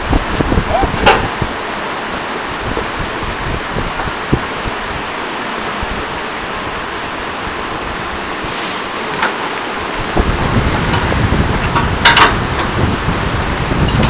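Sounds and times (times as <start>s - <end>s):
wind buffeting microphone: 0.0s - 8.6s, 9.8s - 14.0s
river current rushing: 0.0s - 14.0s.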